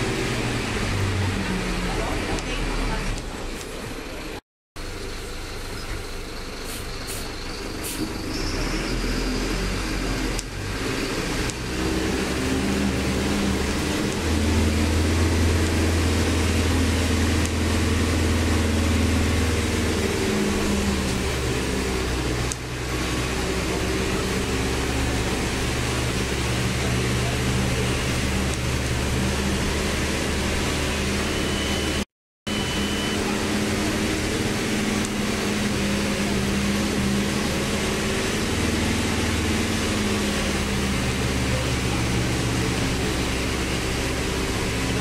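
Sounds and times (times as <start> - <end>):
bus diesel engine drone: 0.0 - 45.0.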